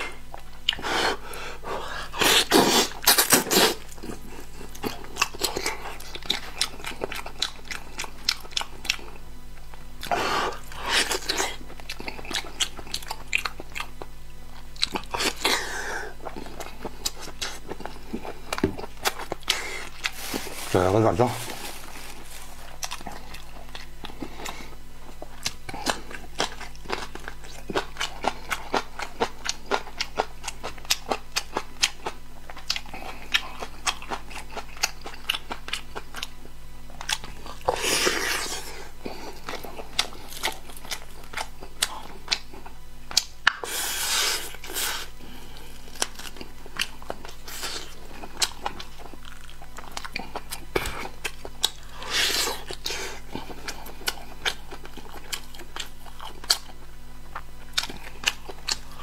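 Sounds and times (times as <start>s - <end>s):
chewing with wet mouth clicks: 0.3s - 0.8s, 2.4s - 15.6s, 22.6s - 43.7s, 45.5s - 59.0s.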